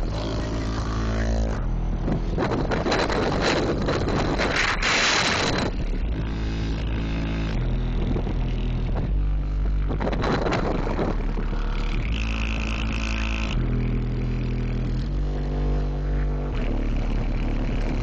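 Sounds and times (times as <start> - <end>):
bass-heavy music through subwoofers: 0.0 - 18.0
noisy burst: 0.0 - 18.0.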